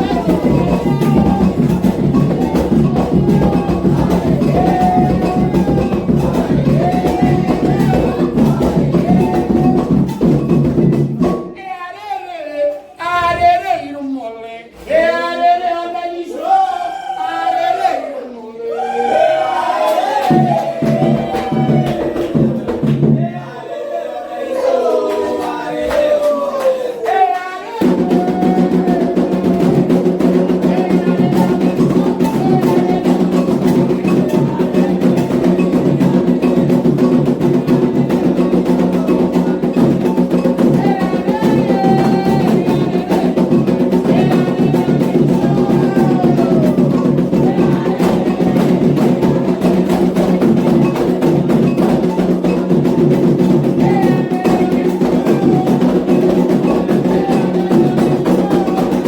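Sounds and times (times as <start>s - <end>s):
hand drums playing: 0.0s - 11.6s, 19.1s - 23.6s, 27.7s - 59.0s
person singing a chant: 0.0s - 16.5s, 18.7s - 59.0s.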